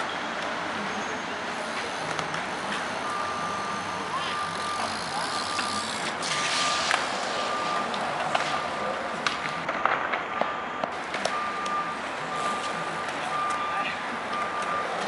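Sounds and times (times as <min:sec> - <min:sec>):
reversing alarm beeping: 0:01.0 - 0:08.8, 0:09.5 - 0:15.0.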